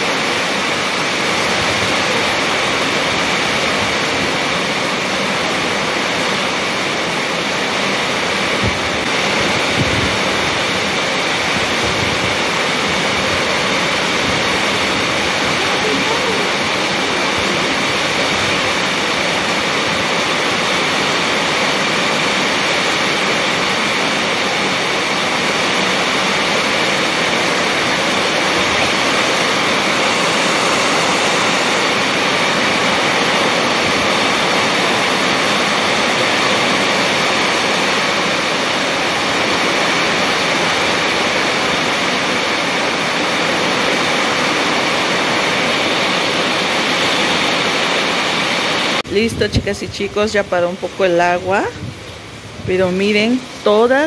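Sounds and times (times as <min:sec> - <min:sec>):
heavy rain pouring: 0:00.0 - 0:49.6, 0:50.8 - 0:53.6.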